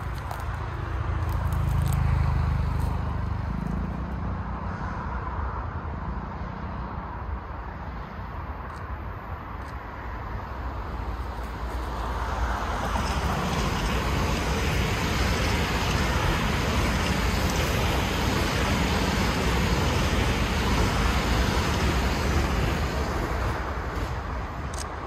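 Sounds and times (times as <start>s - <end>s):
low rumble of passing vehicles: 0.0s - 25.0s.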